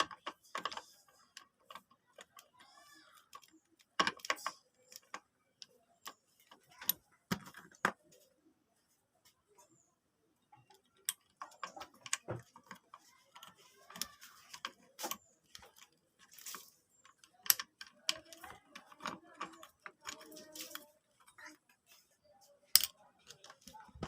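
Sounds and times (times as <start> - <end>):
small hard objects clicking and tapping: 0.0 - 8.5, 9.2 - 24.0.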